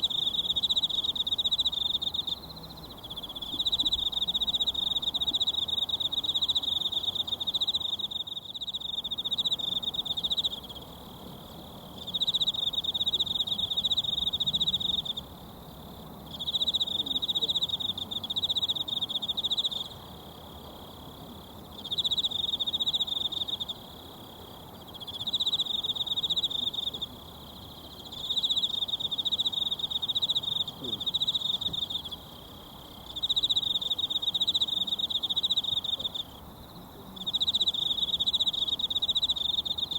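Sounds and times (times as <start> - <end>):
high-pitched insect trill: 0.0 - 15.5, 16.2 - 39.9.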